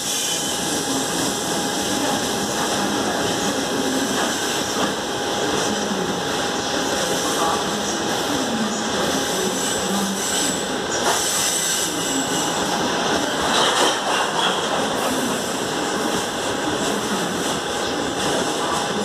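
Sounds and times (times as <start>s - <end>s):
train wheels rolling on rail: 0.0s - 19.0s.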